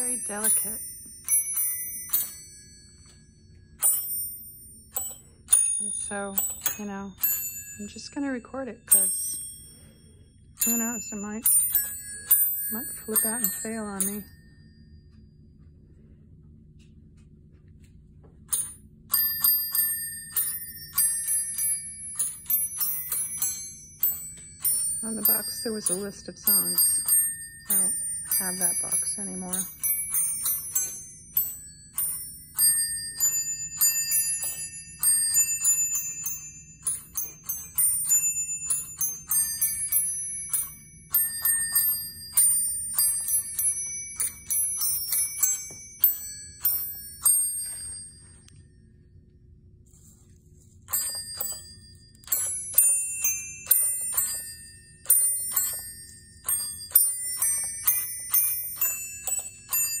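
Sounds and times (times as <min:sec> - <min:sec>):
small bells ringing a tune: 0:00.0 - 0:15.6, 0:18.5 - 0:49.2, 0:50.0 - 1:00.0.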